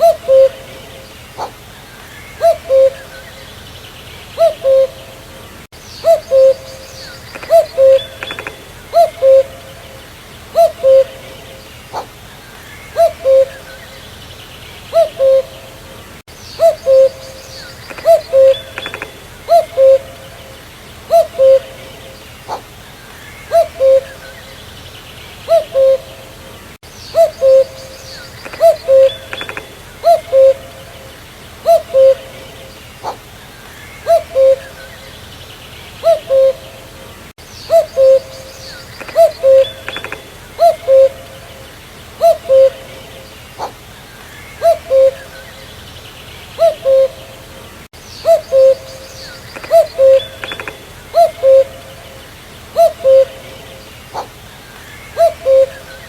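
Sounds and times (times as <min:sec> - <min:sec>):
cuckoo calling: 0:00.0 - 0:03.7, 0:04.3 - 0:14.2, 0:14.9 - 0:24.7, 0:25.4 - 0:35.3, 0:36.0 - 0:45.8, 0:46.5 - 0:56.0
birds chirping: 0:00.0 - 0:56.0.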